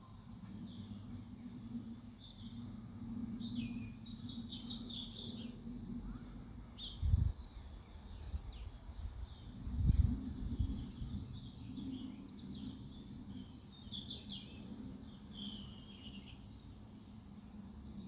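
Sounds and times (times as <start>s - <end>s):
small birds chirping: 0.0s - 17.2s.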